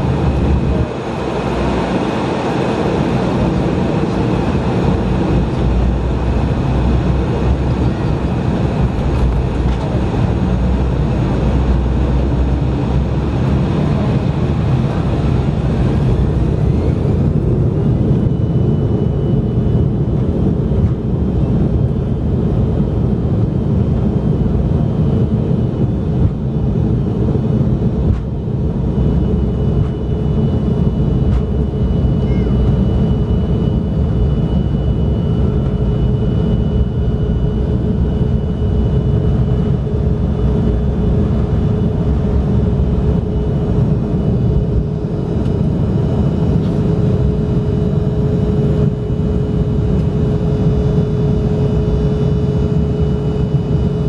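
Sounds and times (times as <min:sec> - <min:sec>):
aircraft cabin low rumble: 0:00.0 - 0:54.0
thin engine whine: 0:00.0 - 0:54.0.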